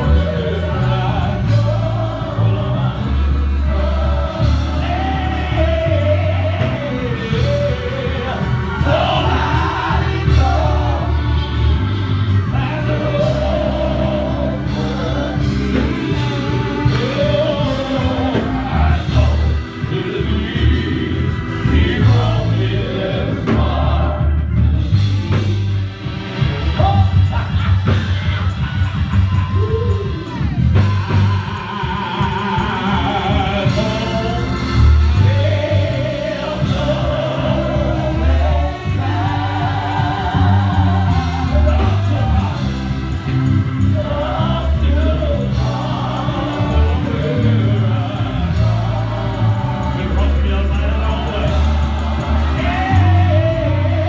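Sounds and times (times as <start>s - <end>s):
gospel singing: 0.0s - 54.0s
pulsing bass: 0.0s - 54.0s.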